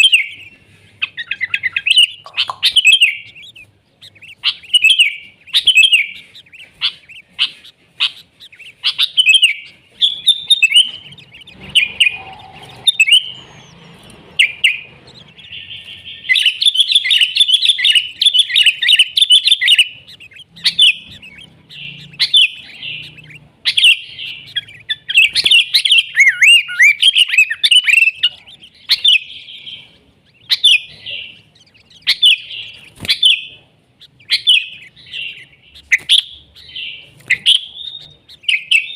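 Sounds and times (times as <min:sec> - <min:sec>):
bird chirping and chattering: 0:00.0 - 0:38.9.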